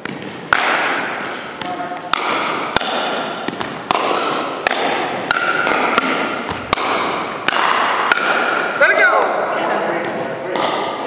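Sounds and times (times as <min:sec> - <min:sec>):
ball bouncing on wooden floor: 0:00.0 - 0:08.6, 0:10.0 - 0:11.0
paddles hitting plastic ball: 0:00.0 - 0:11.0.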